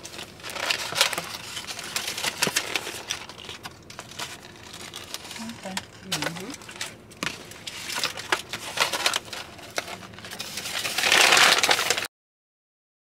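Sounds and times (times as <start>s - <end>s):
bag rustling and crinkling: 0.0s - 12.1s.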